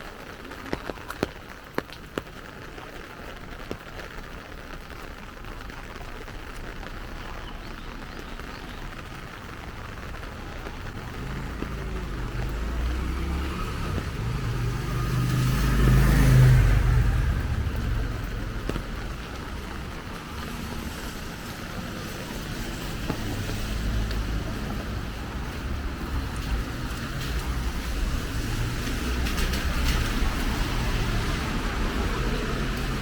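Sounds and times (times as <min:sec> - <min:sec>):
car passing on wet street: 0:00.0 - 0:33.0
traffic rumble: 0:00.0 - 0:33.0.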